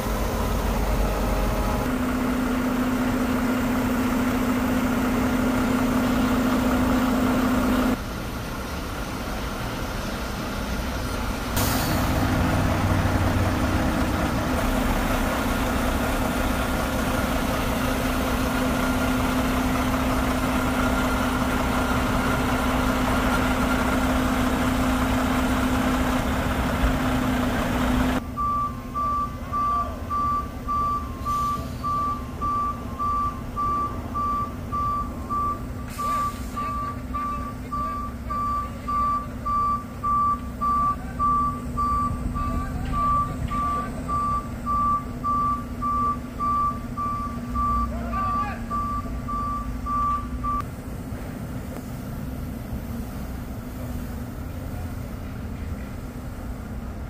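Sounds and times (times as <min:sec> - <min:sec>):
truck reversing alarm beeping: 0:00.0 - 0:08.0, 0:11.6 - 0:50.7
diesel truck engine running: 0:00.0 - 0:57.0.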